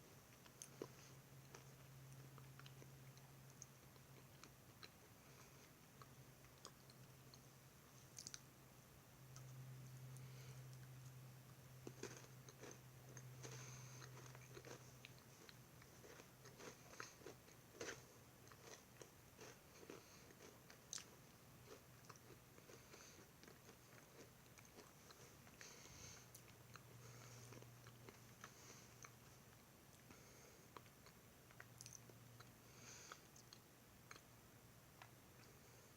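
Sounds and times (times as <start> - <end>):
steady low hum: 0.0 - 35.9
person chewing crunchy food: 0.3 - 7.5, 8.1 - 8.5, 9.3 - 34.3.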